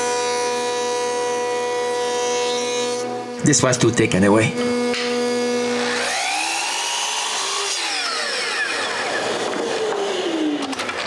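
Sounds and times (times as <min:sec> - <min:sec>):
power tool cutting wood: 0:00.0 - 0:11.0.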